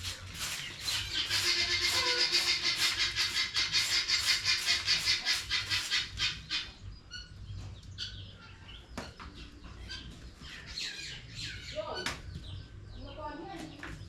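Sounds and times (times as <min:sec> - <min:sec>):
chickens chirping: 0:00.1 - 0:13.8.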